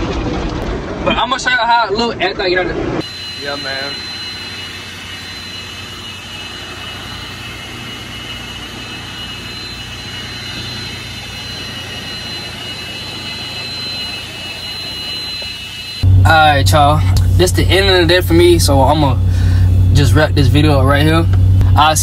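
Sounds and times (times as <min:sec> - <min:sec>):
car wash roar: 0:00.0 - 0:22.0
thin high whine: 0:03.0 - 0:22.0.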